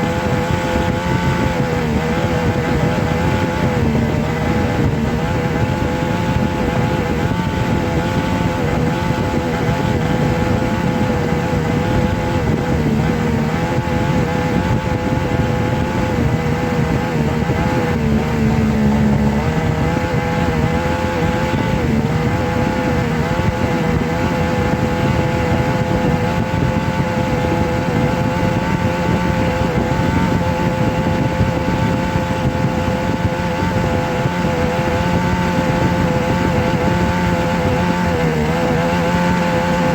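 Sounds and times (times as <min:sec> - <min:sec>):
dense rumble: 0:00.0 - 0:39.9
motor-like humming drone: 0:00.0 - 0:39.9.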